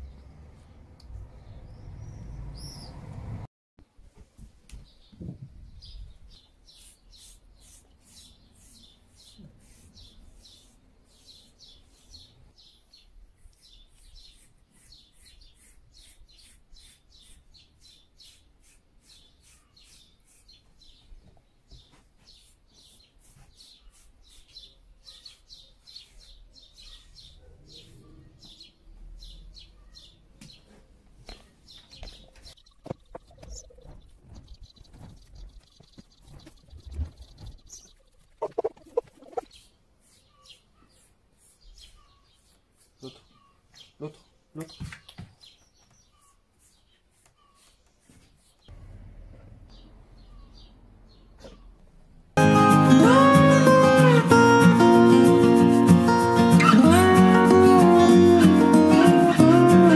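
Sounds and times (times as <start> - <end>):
bird chirping: 0.0 - 3.1, 4.8 - 48.8, 49.6 - 51.8.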